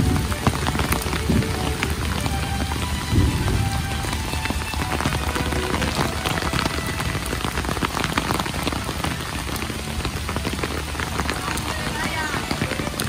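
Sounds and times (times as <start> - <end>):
close raindrop hits: 0.0 - 13.0
heavy rain on pond and concrete: 0.0 - 13.0.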